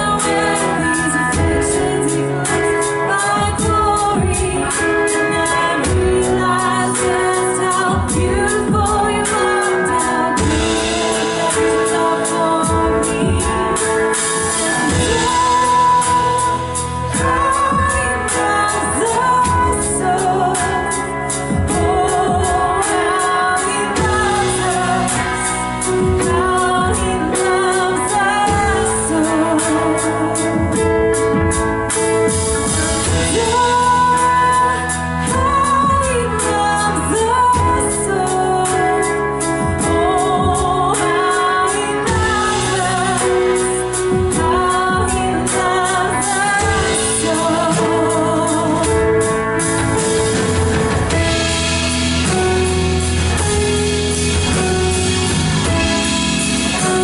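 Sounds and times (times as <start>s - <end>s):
person singing: 0.0s - 57.0s
steady drum beat: 0.0s - 57.0s
worship band playing: 0.0s - 57.0s.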